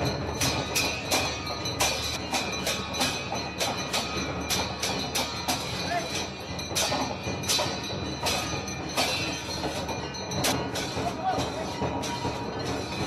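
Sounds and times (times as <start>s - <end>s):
crowd din: 0.0s - 13.0s
metallic clangs ringing: 0.0s - 13.0s.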